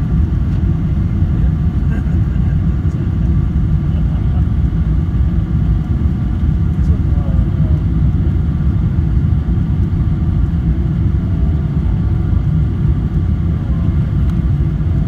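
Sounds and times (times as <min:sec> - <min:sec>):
aircraft cabin rumble while taxiing: 0:00.0 - 0:15.0.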